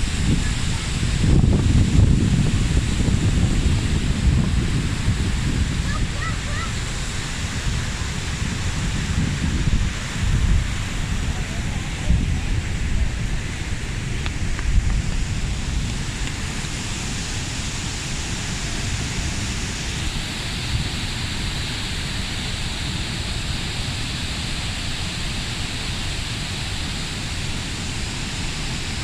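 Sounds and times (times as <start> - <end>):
waterfall rushing: 0.0 - 29.0
wind buffeting microphone: 0.0 - 29.0.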